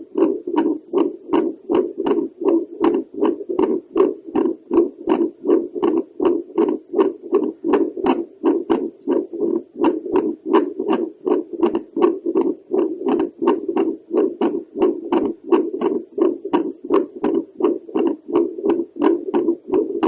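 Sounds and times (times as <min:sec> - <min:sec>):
doppler heartbeat whooshing pulses: 0:00.0 - 0:20.0.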